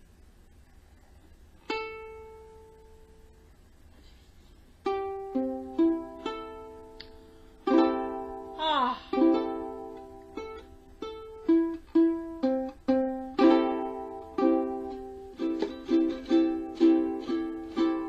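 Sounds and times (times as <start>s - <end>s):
ukulele strings plucked: 1.6s - 3.2s, 4.8s - 18.0s
ukulele strummed: 1.6s - 3.4s, 4.8s - 18.0s.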